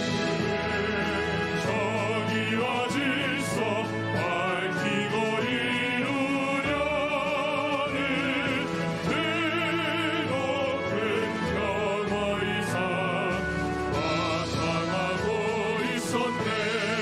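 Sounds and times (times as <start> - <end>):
male ensemble singing operatically: 0.0 - 17.0
orchestral accompaniment: 0.0 - 17.0.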